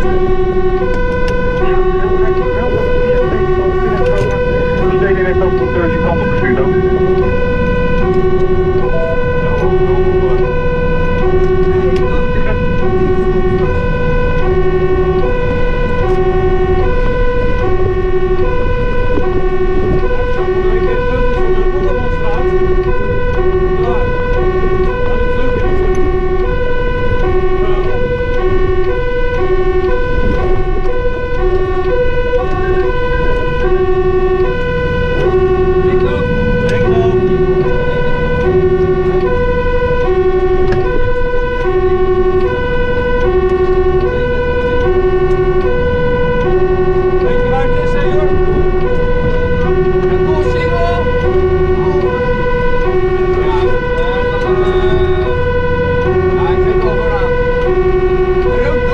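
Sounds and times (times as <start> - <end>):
truck engine rumble: 0.0 - 58.9
two-tone fire truck siren: 0.0 - 58.9.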